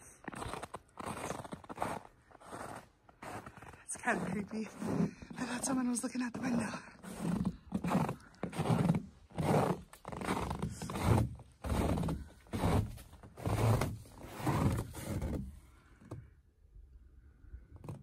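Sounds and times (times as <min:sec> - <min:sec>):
footsteps on snow: 0:00.0 - 0:15.4.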